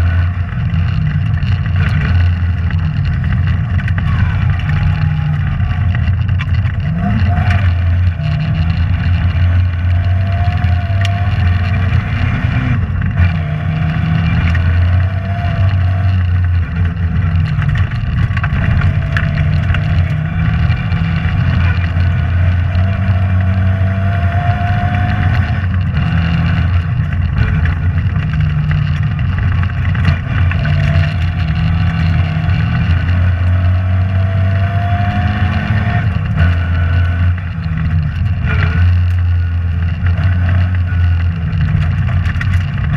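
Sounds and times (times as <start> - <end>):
rally car engine revving: 0.0 - 42.9
road and body noise: 0.0 - 42.9.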